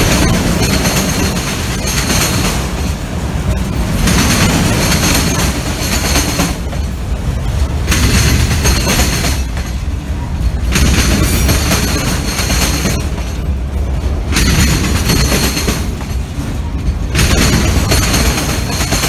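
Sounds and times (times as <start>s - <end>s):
freight train rumbling: 0.0s - 19.0s
wheels hissing on rails: 0.0s - 19.0s.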